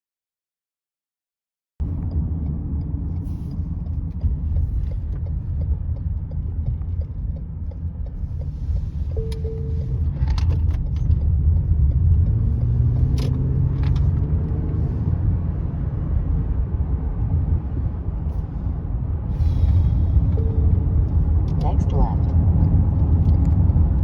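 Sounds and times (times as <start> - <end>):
engine and road rumble: 1.8 - 24.0.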